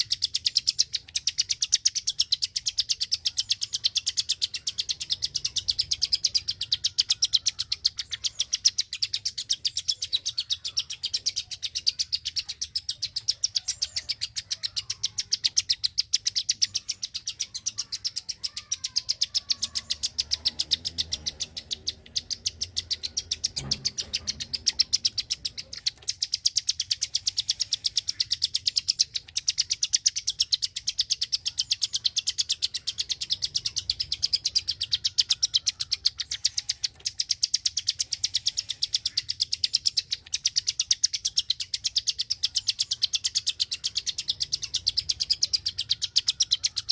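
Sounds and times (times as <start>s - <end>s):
songbird calling sharp clicking notes: 0.0s - 46.9s.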